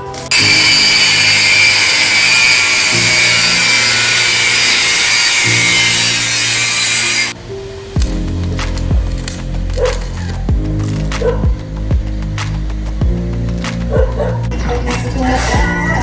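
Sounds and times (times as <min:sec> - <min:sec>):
background music: 0:00.0 - 0:16.0
power saw cutting: 0:00.0 - 0:16.0.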